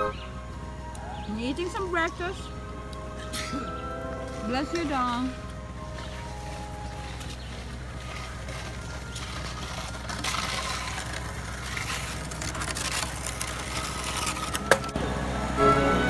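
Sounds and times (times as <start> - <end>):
low rumble: 0.0 - 15.6.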